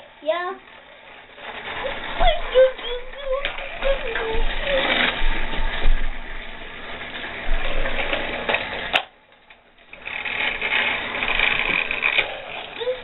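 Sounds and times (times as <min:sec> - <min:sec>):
toy train click: 0:00.0 - 0:13.0
toy train motor whirring: 0:00.0 - 0:13.0.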